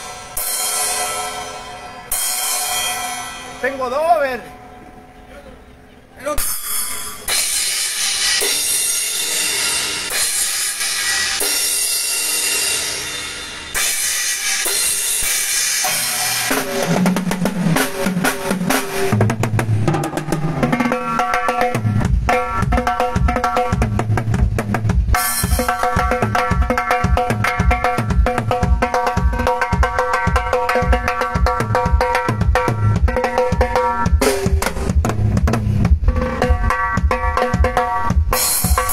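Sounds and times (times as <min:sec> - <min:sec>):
drum kit playing: 0:00.0 - 0:04.4, 0:06.4 - 0:38.9.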